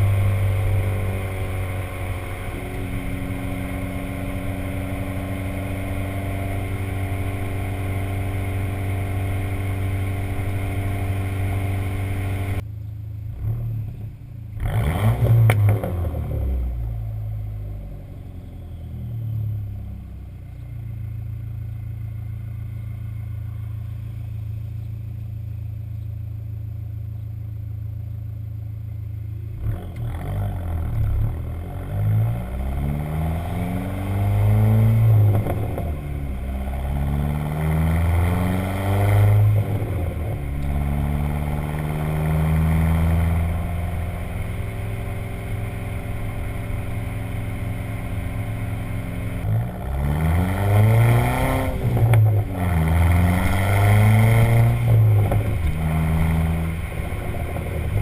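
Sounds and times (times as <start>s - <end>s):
car engine revving: 0.0s - 12.6s, 13.3s - 20.2s, 28.9s - 58.0s.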